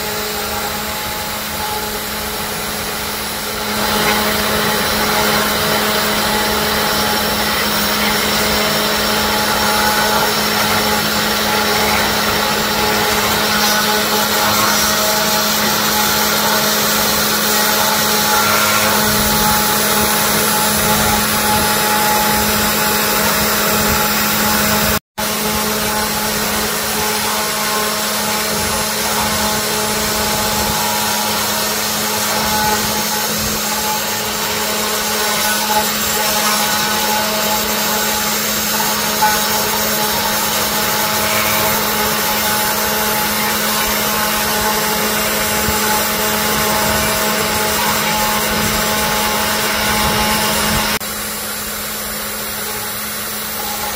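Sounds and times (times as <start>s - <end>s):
router spindle motor whine: 0.0s - 53.9s.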